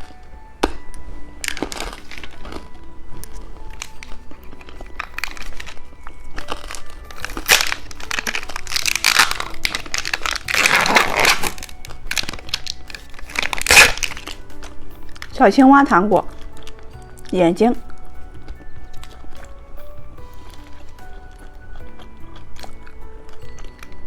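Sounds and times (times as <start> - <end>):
faint background music: 0.0 - 24.0
hard candy crunching: 0.0 - 24.0
rustling: 0.0 - 24.0.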